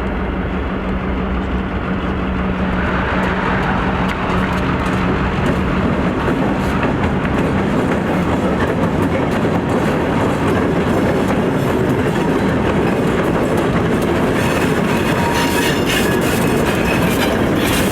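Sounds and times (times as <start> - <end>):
freight train wheels clattering: 0.2 - 17.9.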